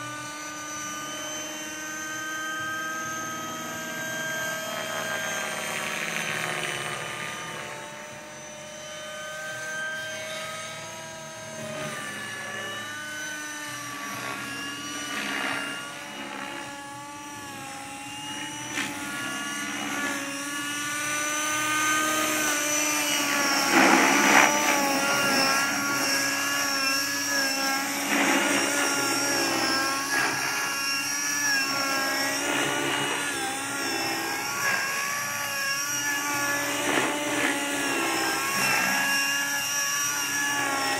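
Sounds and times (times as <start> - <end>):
model helicopter whine: 0.0 - 40.9.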